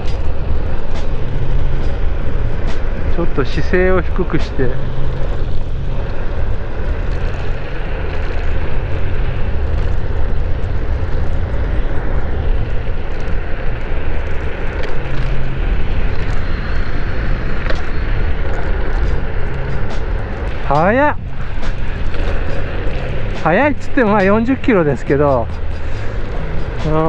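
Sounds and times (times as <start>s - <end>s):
scooter tyre noise: 0.0s - 27.0s.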